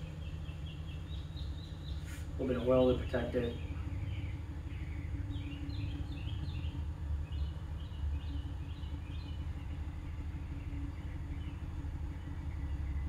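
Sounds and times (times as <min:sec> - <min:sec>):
low rumble with hum: 0:00.0 - 0:13.0
small bird chirping: 0:00.0 - 0:13.0.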